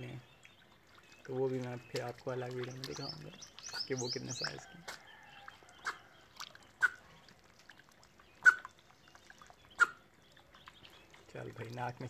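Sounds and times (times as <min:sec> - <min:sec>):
ducks splashing in puddle: 0:00.0 - 0:12.0.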